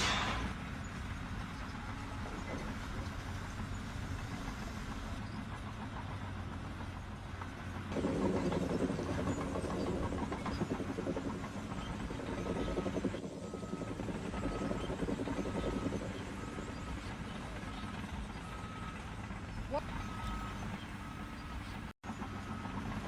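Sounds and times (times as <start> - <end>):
large engine running: 0.0 - 23.0.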